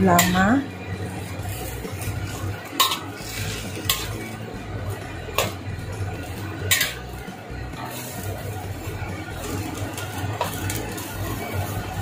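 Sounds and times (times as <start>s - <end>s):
food stir-frying: 0.0s - 12.0s
spatula scraping a wok: 0.2s - 12.0s.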